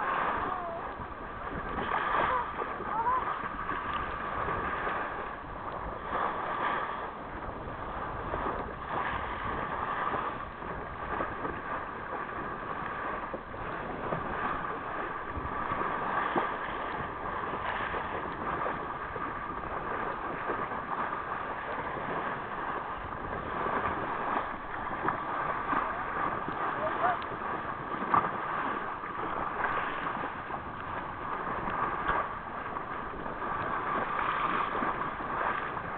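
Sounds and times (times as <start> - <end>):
motorboat engine hum: 0.0 - 35.9
water rushing along hull: 0.0 - 35.9
wind buffeting microphone: 0.0 - 35.9.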